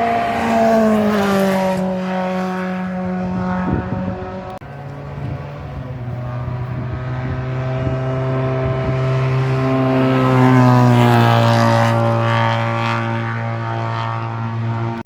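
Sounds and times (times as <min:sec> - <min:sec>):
racing car engine passing by: 0:00.0 - 0:15.0.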